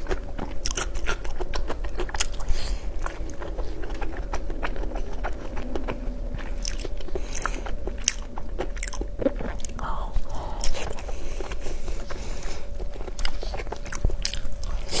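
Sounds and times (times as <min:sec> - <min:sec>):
person biting and chewing: 0:00.0 - 0:15.0.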